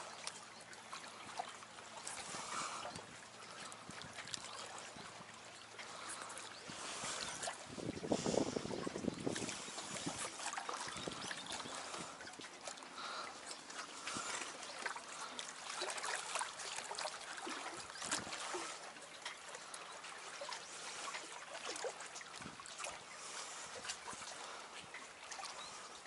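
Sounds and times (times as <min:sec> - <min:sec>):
waves lapping on concrete: 0:00.0 - 0:26.0.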